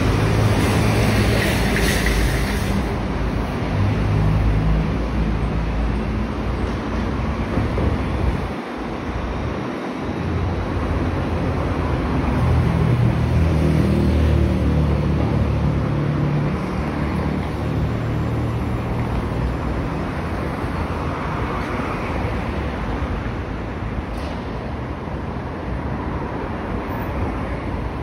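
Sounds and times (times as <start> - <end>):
traffic noise: 0.0 - 28.0.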